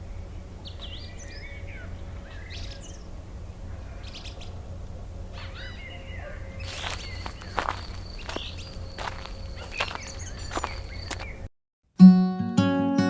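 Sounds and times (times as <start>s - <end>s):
birds chirping and singing: 0.0s - 4.6s, 5.4s - 11.4s
low steady hum: 0.0s - 11.5s.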